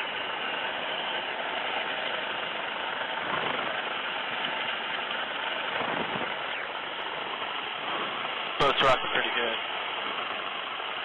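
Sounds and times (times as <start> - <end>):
helicopter engines and rotor: 0.0 - 11.0.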